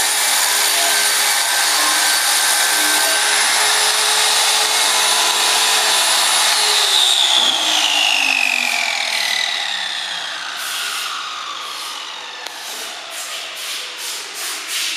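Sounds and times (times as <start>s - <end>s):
circular saw winding down: 0.0s - 14.9s.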